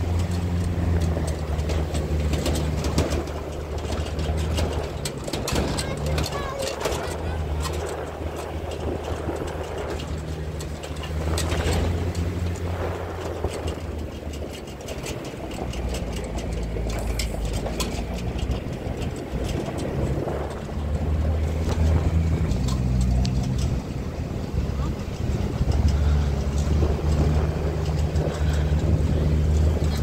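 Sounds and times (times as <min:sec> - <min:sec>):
gravel crackling under tyres: 0:00.0 - 0:30.0
vehicle engine running: 0:00.0 - 0:30.0.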